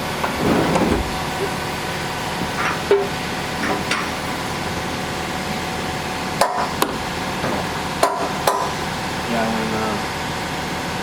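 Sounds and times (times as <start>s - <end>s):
milling machine hum and whine: 0.0s - 11.0s.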